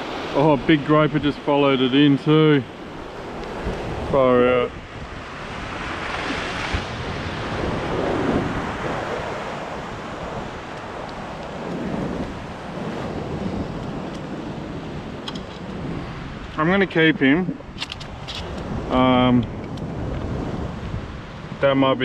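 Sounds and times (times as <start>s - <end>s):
surf washing against rocks: 0.0s - 22.0s
wind buffeting microphone: 0.0s - 22.0s.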